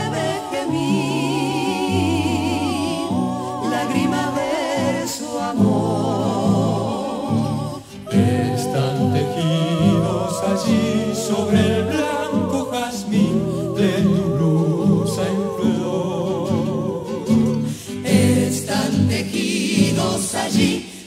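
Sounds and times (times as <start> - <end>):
vocal group singing in harmony: 0.0 - 21.0.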